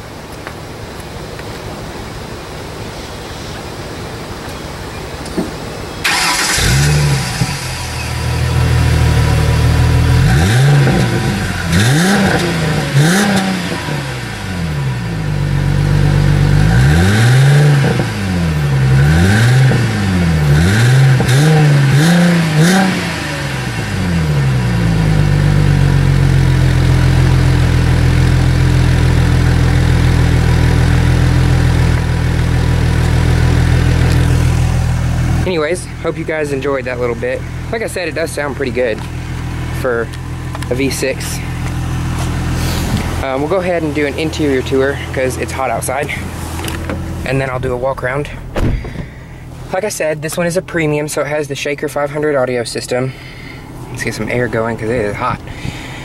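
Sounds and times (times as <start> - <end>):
car engine idling: 0.0 - 56.0
car engine starting: 2.4 - 56.0
car engine revving: 6.0 - 51.1.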